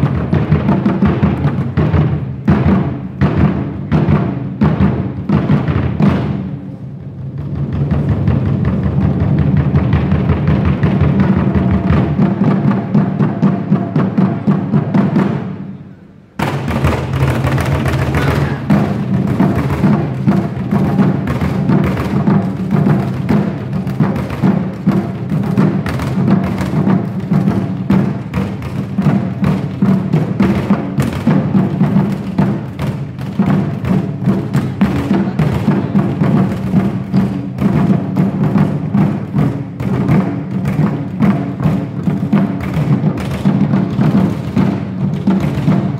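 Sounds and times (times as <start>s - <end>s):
fast dense barrel drumming: 0.0s - 15.8s, 16.4s - 45.9s.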